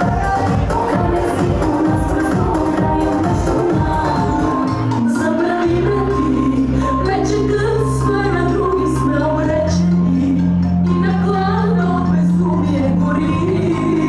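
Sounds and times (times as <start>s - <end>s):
person singing: 0.0s - 14.0s
upbeat dance music: 0.0s - 14.0s.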